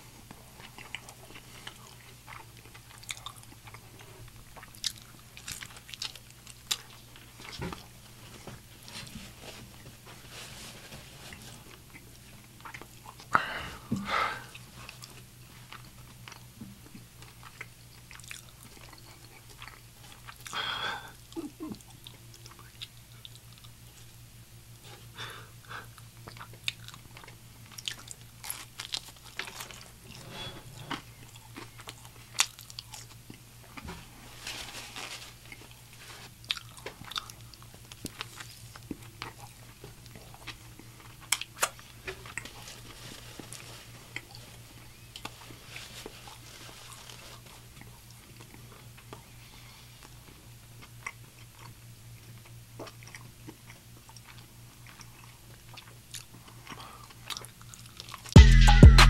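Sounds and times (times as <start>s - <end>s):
man chewing crunchy food: 0.0s - 10.0s, 11.3s - 34.4s, 35.1s - 58.4s
low steady hum: 0.0s - 59.0s.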